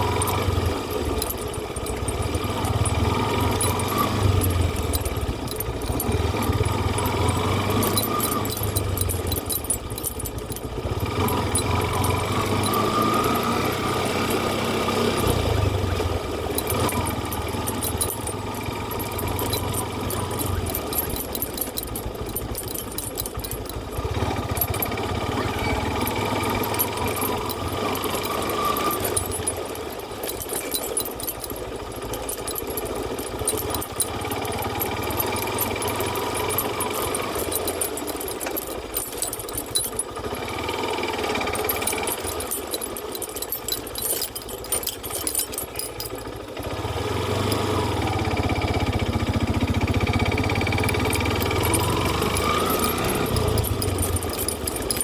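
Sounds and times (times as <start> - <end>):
engine clattering: 0.0 - 55.0.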